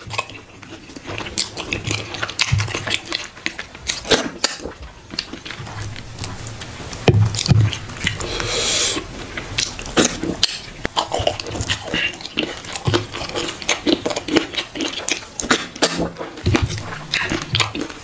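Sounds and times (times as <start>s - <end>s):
man eating with wet smacks: 0.0s - 18.0s.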